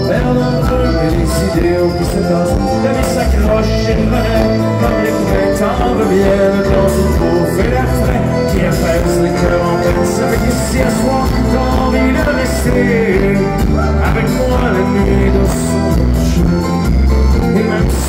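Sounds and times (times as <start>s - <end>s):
folk-rock band playing: 0.0s - 18.0s
person singing: 0.0s - 18.0s.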